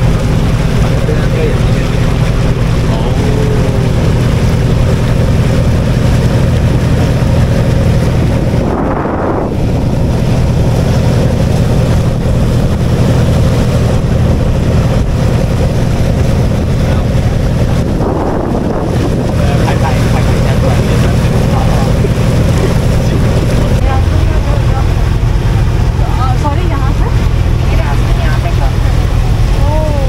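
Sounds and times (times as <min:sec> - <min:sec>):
boat engine humming: 0:00.0 - 0:30.0
water rushing along hull: 0:00.0 - 0:30.0
wind buffeting microphone: 0:00.0 - 0:30.0.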